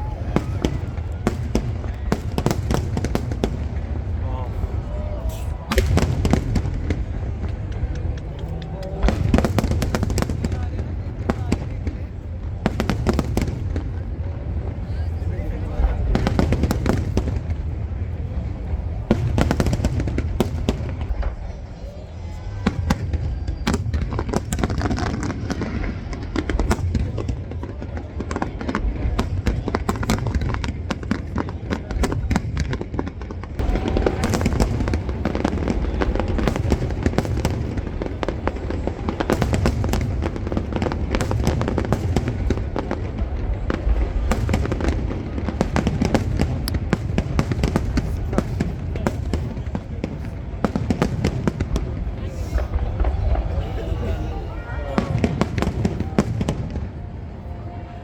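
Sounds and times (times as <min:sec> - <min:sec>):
firework sharp cracks: 0:00.0 - 0:14.1, 0:22.4 - 0:57.1
firework deep booms: 0:00.0 - 0:58.0.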